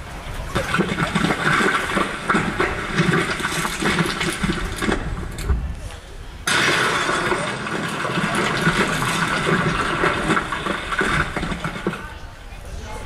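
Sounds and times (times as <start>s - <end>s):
rushing water-like noise: 0.0s - 5.5s, 6.5s - 12.4s.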